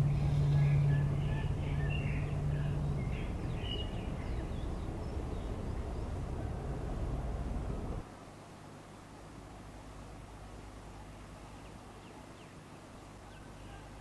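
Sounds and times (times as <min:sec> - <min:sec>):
low steady hum: 0:00.0 - 0:12.3
steady background noise: 0:00.0 - 0:14.0.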